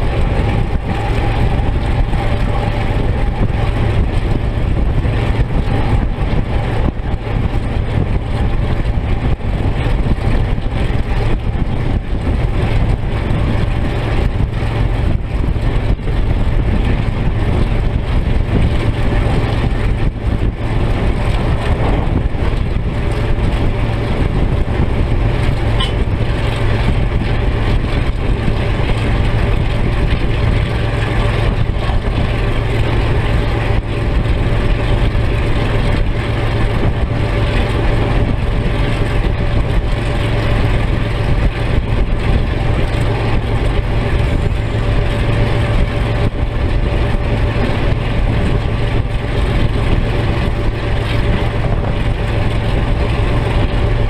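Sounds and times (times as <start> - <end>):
locomotive diesel engine drone: 0.0 - 54.0
train running noise: 0.0 - 54.0.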